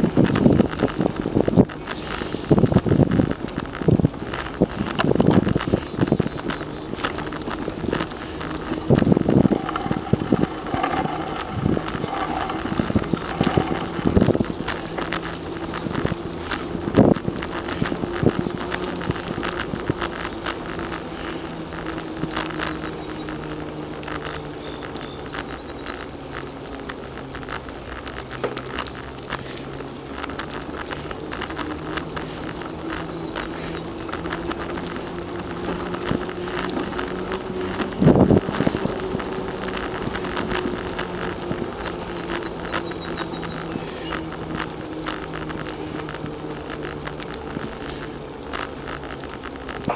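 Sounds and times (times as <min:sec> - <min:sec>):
bicycle jolts over bumps: 0:00.0 - 0:49.9
bicycle rattles and clicks: 0:00.0 - 0:49.9
bicycle tyres humming: 0:00.0 - 0:49.9.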